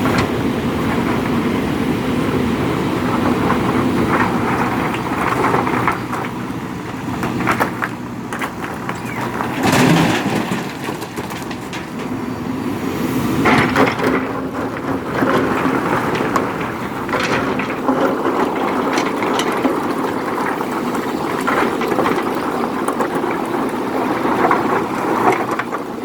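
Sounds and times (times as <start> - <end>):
diesel engine running under load: 0.0 - 26.0
stones clattering and knocking: 3.2 - 12.5, 13.4 - 25.9.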